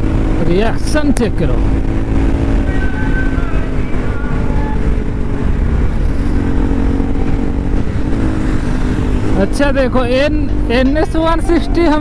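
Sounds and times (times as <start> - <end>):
low wind rumble on microphone: 0.0 - 12.0
motorcycle engine running: 0.0 - 12.0.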